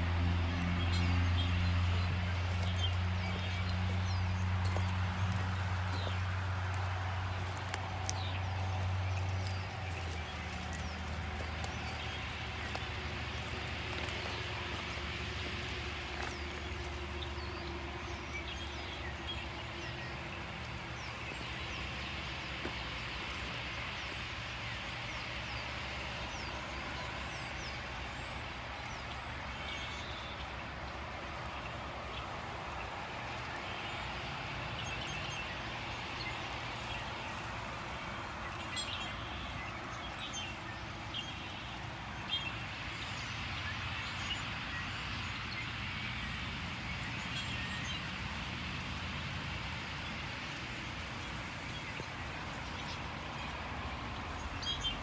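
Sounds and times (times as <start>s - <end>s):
flock of birds chattering: 0.8s - 48.2s.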